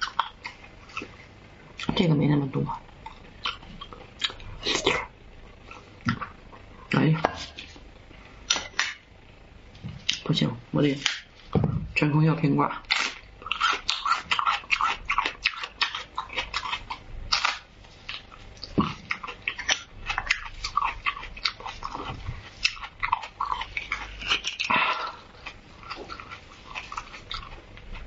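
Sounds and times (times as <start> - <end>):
chewing crunchy raw onion: 0.0 - 9.1, 12.7 - 28.0.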